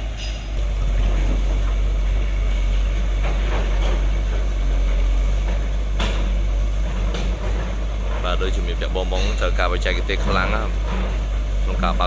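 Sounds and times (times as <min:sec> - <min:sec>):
diesel engine idling: 0:00.6 - 0:12.0.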